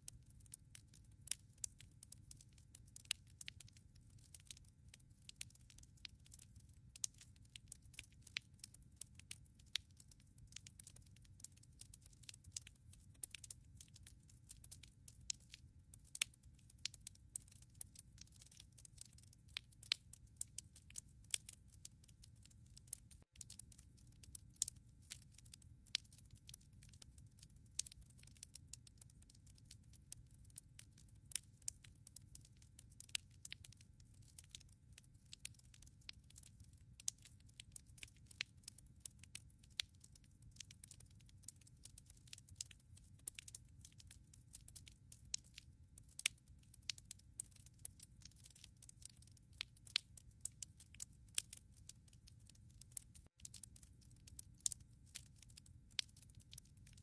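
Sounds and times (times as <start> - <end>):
wood fire crackling: 1.2 - 57.0.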